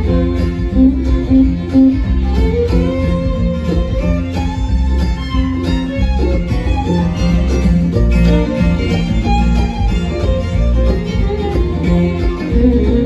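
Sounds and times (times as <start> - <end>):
bluegrass band playing: 0.0 - 13.0
fiddle: 0.0 - 13.0.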